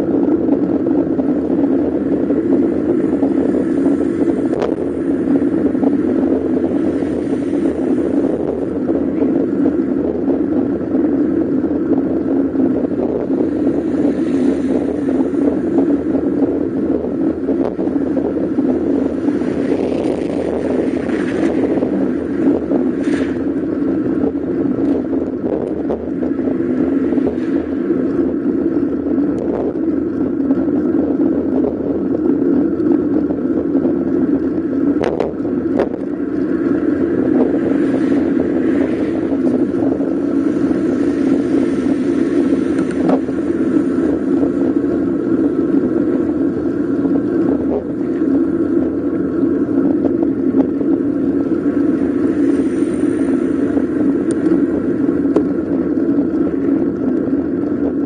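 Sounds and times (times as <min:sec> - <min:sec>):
road noise: 0:00.0 - 0:58.0
rushing wind: 0:00.0 - 0:58.0.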